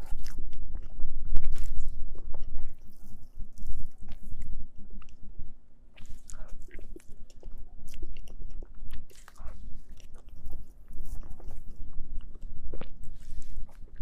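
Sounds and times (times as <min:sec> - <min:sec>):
person chewing close-up: 0:00.0 - 0:05.3, 0:05.9 - 0:14.0.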